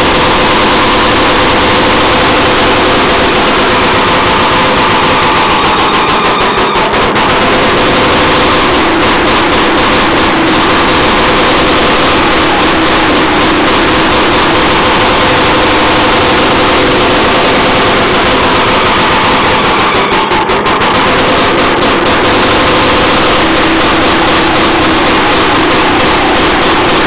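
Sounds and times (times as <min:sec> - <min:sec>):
two-stroke engine running steadily: 0:00.0 - 0:27.0.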